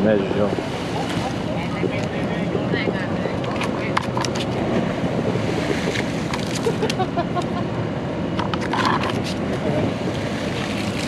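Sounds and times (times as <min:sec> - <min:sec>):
steady background rumble: 0:00.0 - 0:11.0.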